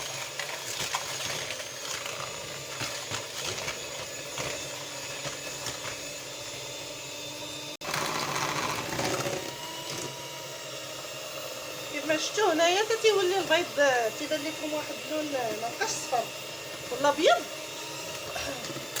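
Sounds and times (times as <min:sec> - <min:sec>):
electric hand mixer running: 0:00.0 - 0:19.0.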